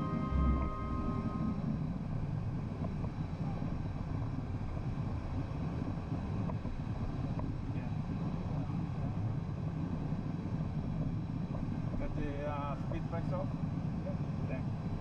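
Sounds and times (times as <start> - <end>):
jet engine and airflow rumble: 0.0 - 15.0.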